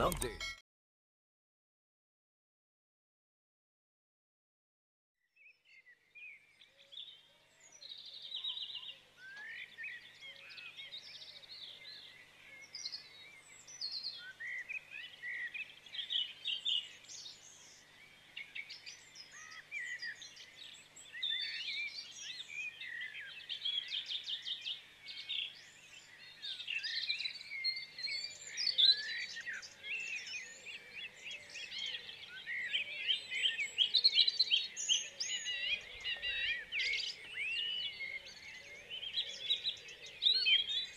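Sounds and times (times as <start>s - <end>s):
birds chirping and singing: 6.3s - 40.9s.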